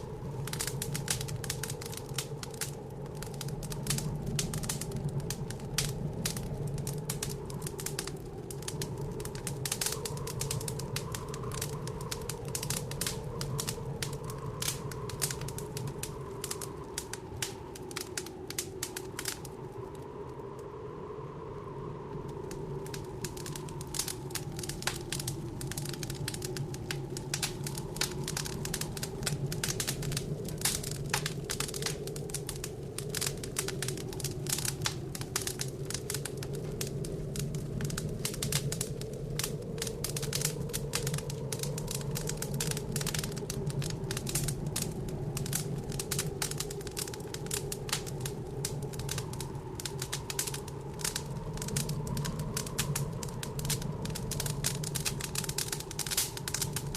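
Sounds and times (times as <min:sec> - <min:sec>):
howling blizzard wind: 0:00.0 - 0:56.9
wood fire crackling and popping: 0:00.0 - 0:56.9.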